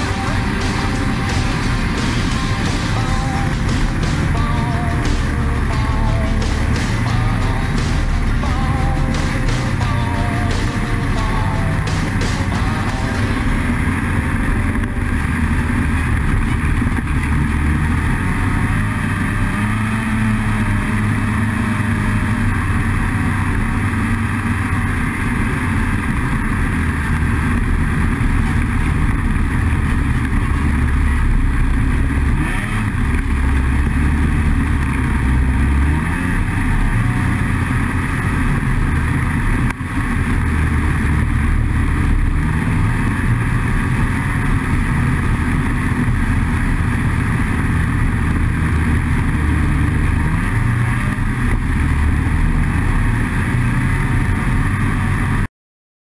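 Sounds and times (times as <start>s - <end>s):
snowmobile engine running: 0.0s - 55.5s.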